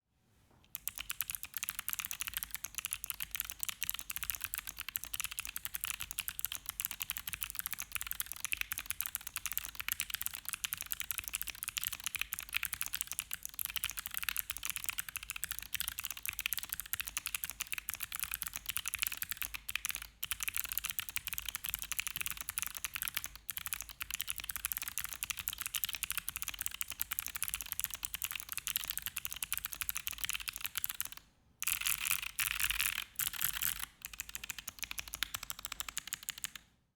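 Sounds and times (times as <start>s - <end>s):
fast typing on mechanical keyboard: 0.7s - 36.6s.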